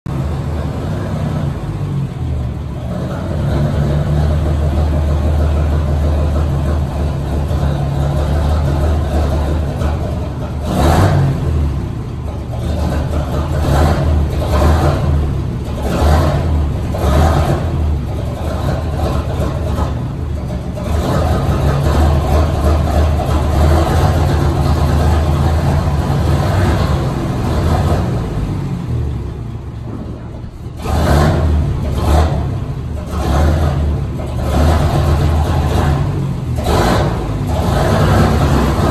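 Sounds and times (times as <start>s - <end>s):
truck engine rumbling and revving: 0.0s - 38.9s.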